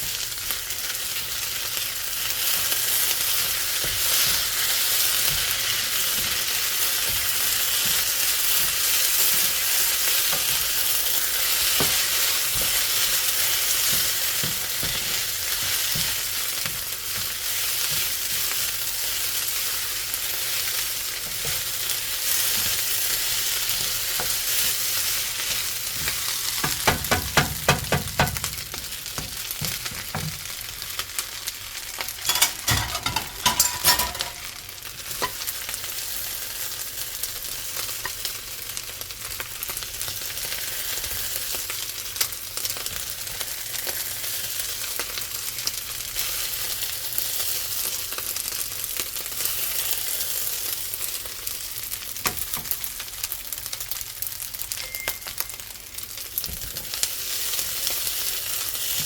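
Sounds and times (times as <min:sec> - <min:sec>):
fried rice sizzling: 0:00.0 - 0:59.0.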